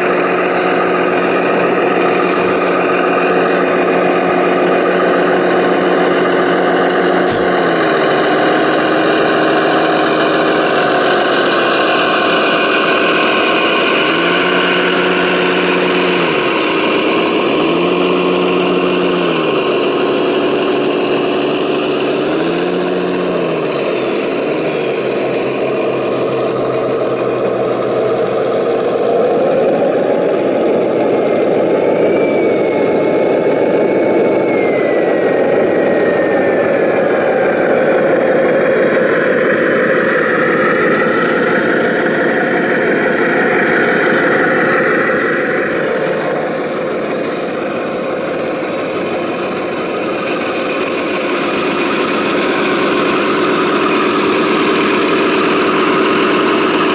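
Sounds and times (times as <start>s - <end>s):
high electric drive whine: 0.0s - 56.9s
toy truck engine sound revving: 0.0s - 56.9s.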